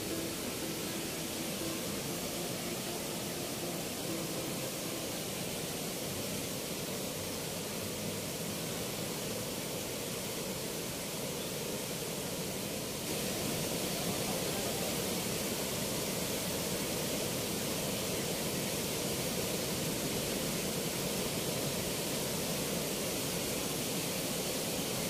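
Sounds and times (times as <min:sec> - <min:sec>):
turbulent water rushing: 0:00.0 - 0:25.0.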